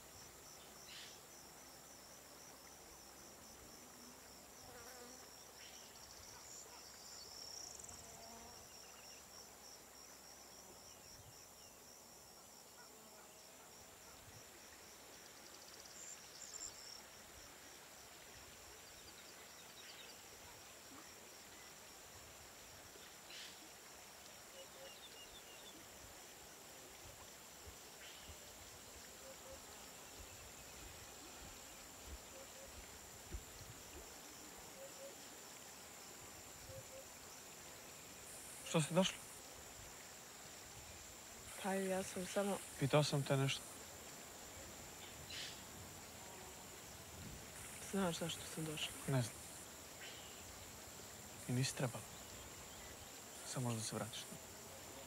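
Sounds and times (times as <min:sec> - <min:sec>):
high insect hum: 0:00.0 - 0:55.0
insects trilling: 0:00.0 - 0:55.0.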